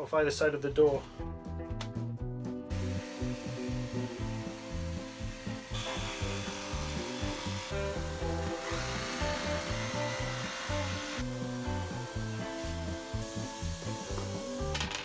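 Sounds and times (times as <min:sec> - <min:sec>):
background music with bass line: 0:00.0 - 0:15.0
power saw cutting wood: 0:02.7 - 0:14.8.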